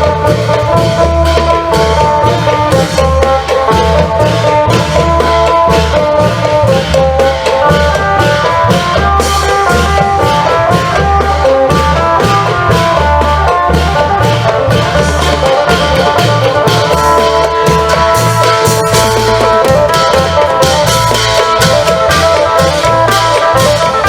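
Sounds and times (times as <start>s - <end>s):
deep drum beat: 0.0s - 24.0s
lute picking fast melody: 0.0s - 24.0s.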